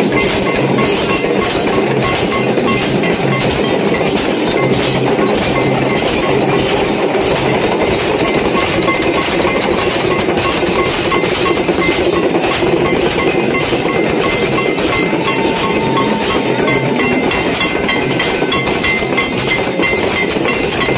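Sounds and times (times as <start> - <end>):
bells and percussion clanging: 0.0 - 20.9.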